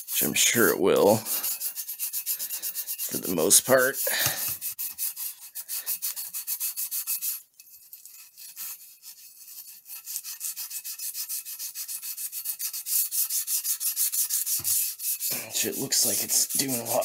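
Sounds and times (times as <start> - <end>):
brush scrubbing steel barrel: 0.0 - 17.0.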